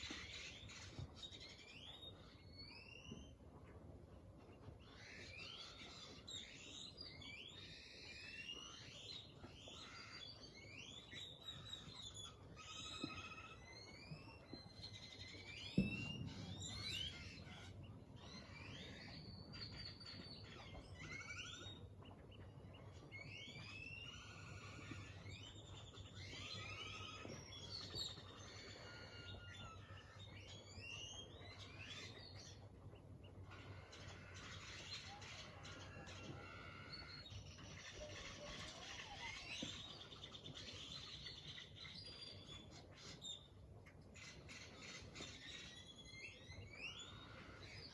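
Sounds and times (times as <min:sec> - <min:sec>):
birds chirping and whistling: 0:00.0 - 0:03.8, 0:04.4 - 0:47.9.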